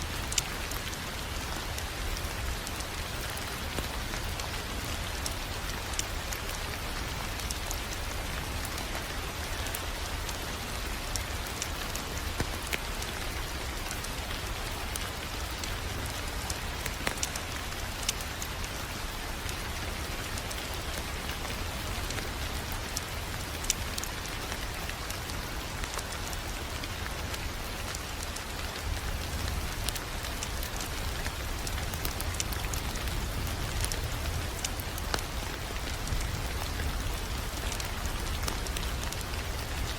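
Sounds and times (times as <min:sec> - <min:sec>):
continuous hiss and low rumble: 0:00.0 - 0:39.9
wood fire crackling: 0:00.0 - 0:39.9.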